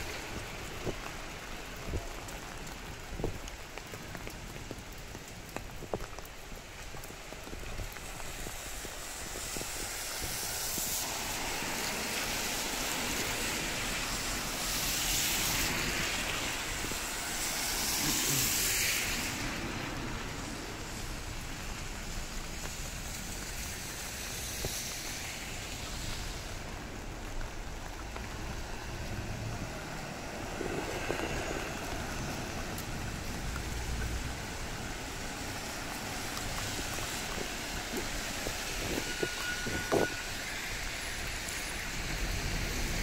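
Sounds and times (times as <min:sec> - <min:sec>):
rain hissing: 0:00.0 - 0:43.0.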